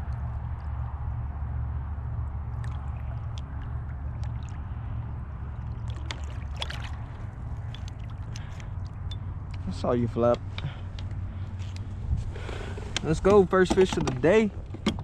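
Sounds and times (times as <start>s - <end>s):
steady low rumble: 0.0s - 15.0s
water trickling and splashing: 2.2s - 14.8s.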